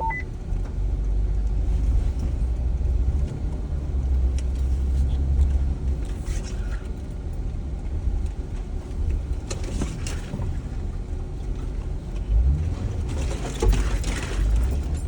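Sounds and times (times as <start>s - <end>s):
tyre road noise: 0.0s - 15.0s
vehicle engine rumble: 0.0s - 15.0s.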